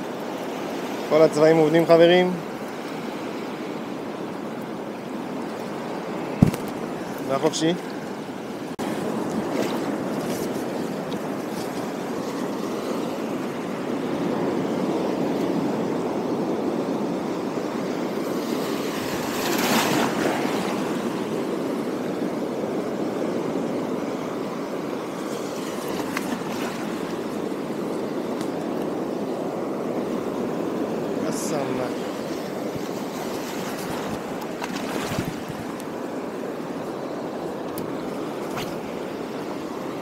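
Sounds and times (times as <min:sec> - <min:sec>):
sea waves washing over rocks: 0:00.0 - 0:40.0.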